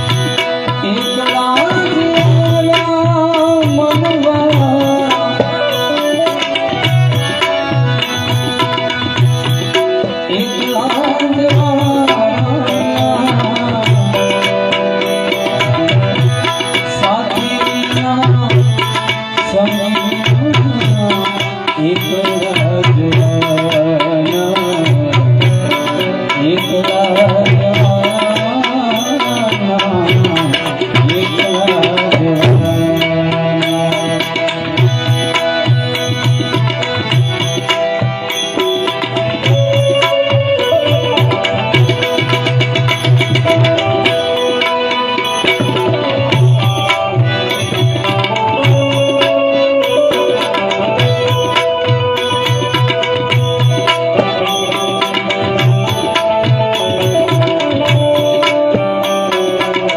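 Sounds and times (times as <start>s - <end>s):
high ticking beat: 0.0s - 59.9s
sliding melody instrument: 0.0s - 59.9s
tabla playing a steady rhythm: 0.0s - 59.9s.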